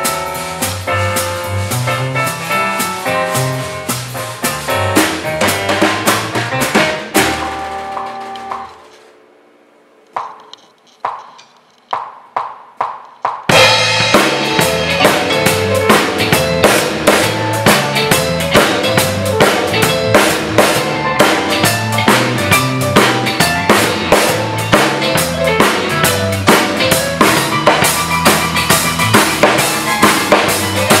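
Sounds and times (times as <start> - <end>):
backing track of bass and chords: 0.0 - 8.8, 13.5 - 31.0
drum kit groove: 0.0 - 9.0, 10.2 - 31.0.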